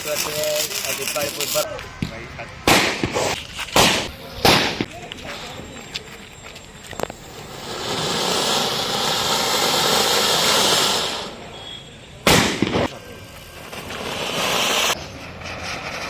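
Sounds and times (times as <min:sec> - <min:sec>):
firework hissing burn: 0:00.0 - 0:01.7, 0:02.6 - 0:05.7, 0:06.9 - 0:16.0
firework bang with crackle: 0:00.0 - 0:05.1, 0:07.0 - 0:11.5, 0:12.2 - 0:16.0.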